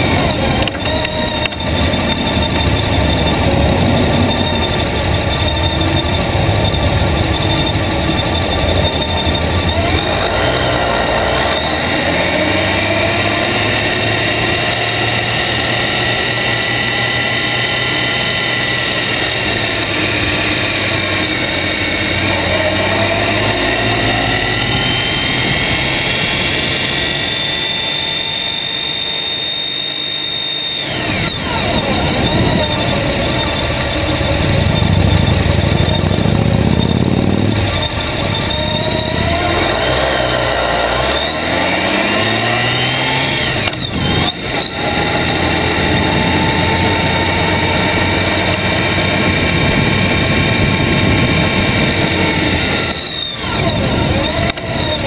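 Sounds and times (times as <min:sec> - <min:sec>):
motorcycle engine: 0:00.0 - 0:55.0
wind and road rush: 0:00.0 - 0:55.0.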